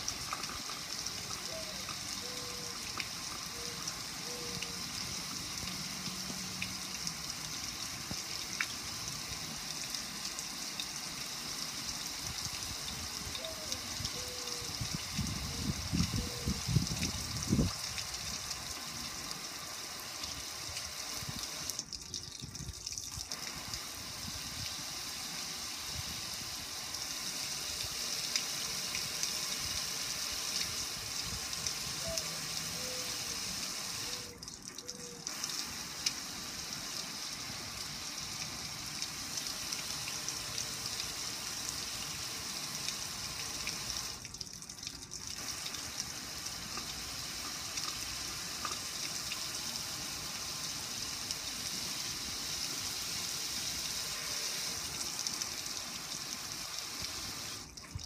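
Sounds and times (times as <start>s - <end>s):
water spraying onto a grill: 0.0s - 58.0s.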